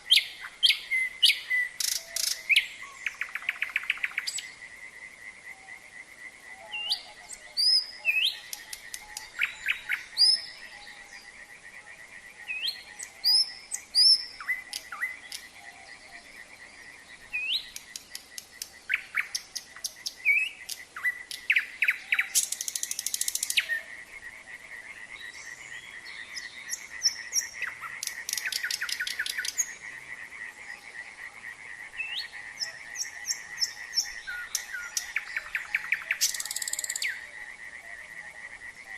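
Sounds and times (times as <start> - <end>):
nightingale singing: 0.0 - 4.7, 5.5 - 38.9
frogs trilling chorus: 0.0 - 38.9.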